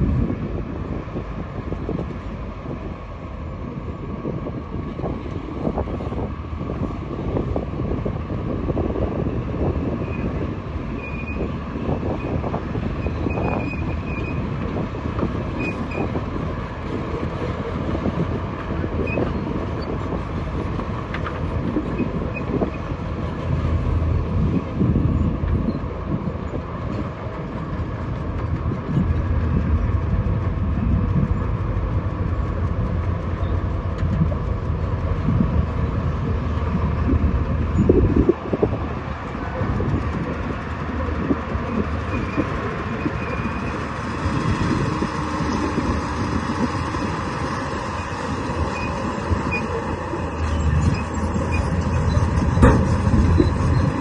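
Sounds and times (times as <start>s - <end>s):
diesel engine under load: 0.0s - 54.0s
steel crawler tracks clanking: 0.0s - 54.0s
track squeaks: 8.7s - 54.0s.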